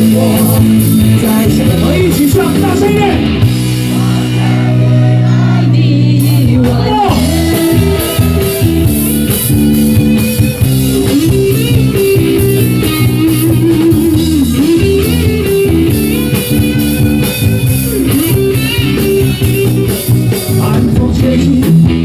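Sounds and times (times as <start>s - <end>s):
guitar melody with bent notes: 0.0s - 22.0s
rock band playing: 0.0s - 22.0s.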